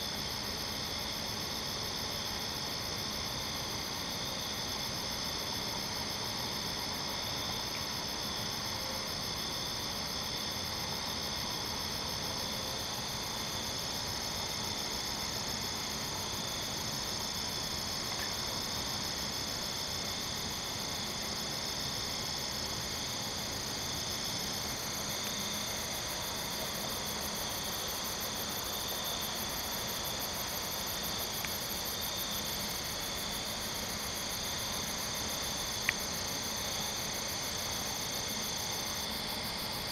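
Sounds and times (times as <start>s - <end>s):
crickets and katydids trilling: 0.0s - 39.9s.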